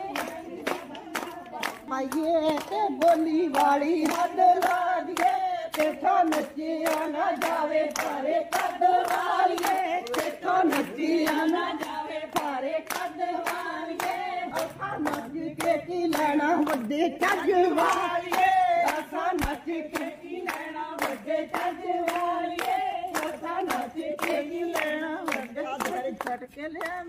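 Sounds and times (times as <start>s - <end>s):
rhythmic hand-clapping: 0.0s - 27.0s
women singing folk song: 0.0s - 27.0s.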